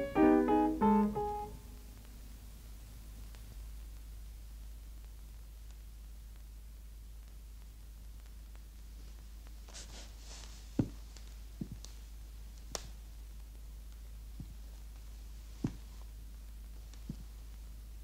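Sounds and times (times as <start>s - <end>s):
soft rustle: 1.7s - 18.0s.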